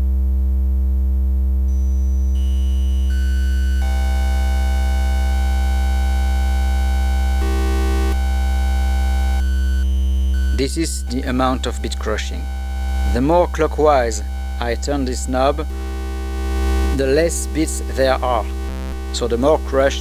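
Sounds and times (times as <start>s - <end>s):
buzzy synthesizer drone: 1.6s - 20.0s.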